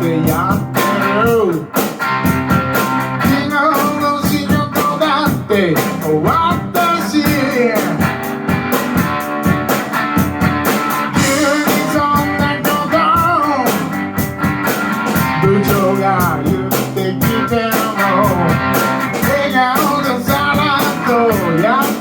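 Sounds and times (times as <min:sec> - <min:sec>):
electric guitar lines: 0:00.0 - 0:22.0
steady drum beat: 0:00.0 - 0:22.0.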